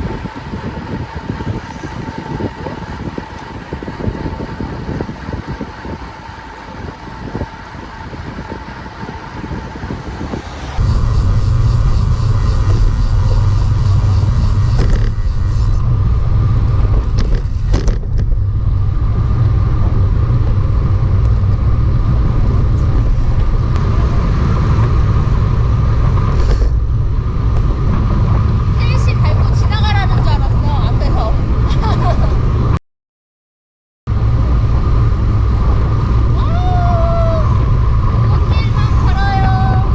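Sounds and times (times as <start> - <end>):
bicycle road noise: 0.0 - 32.8, 34.1 - 39.9
wind rumbling on microphone: 0.0 - 32.8, 34.1 - 39.9.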